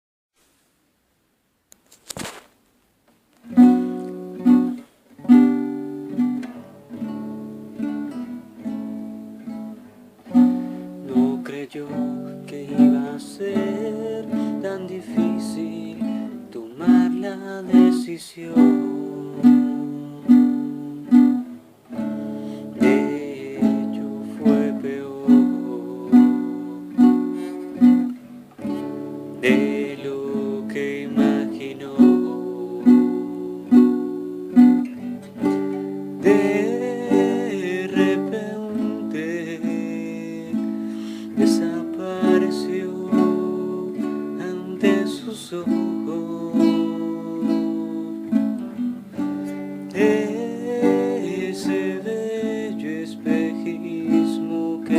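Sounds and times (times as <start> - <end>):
plucked guitar chords: 3.5 - 54.9.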